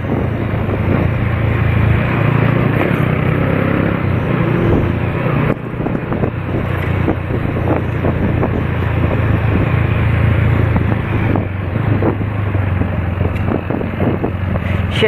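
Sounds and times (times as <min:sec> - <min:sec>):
vehicle engine running: 0:00.0 - 0:15.0
wind over microphone: 0:00.0 - 0:15.0.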